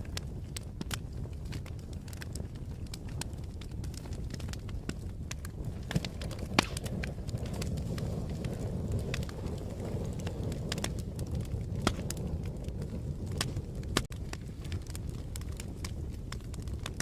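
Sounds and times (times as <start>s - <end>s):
fire flames rumbling: 0.0s - 17.0s
fire popping and snapping: 0.0s - 17.0s.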